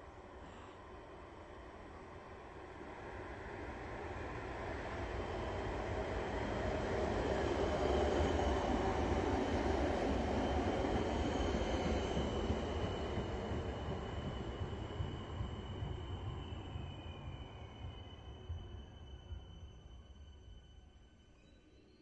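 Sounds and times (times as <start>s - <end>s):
electric train pulling in: 0.0s - 22.0s.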